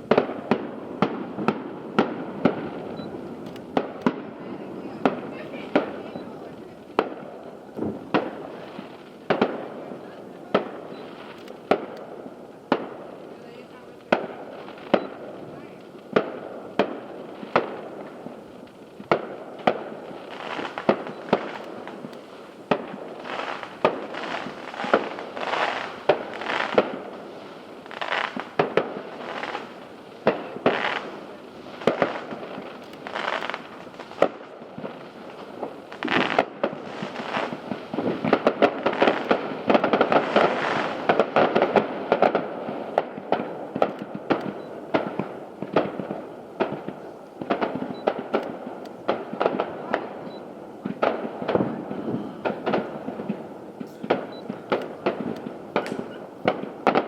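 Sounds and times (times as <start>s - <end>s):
firework shells bursting: 0.0s - 57.0s
fireworks crackling: 0.0s - 57.0s.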